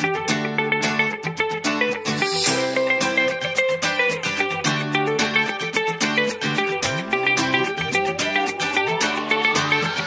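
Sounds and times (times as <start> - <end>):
background music with plucked notes: 0.0 - 10.0.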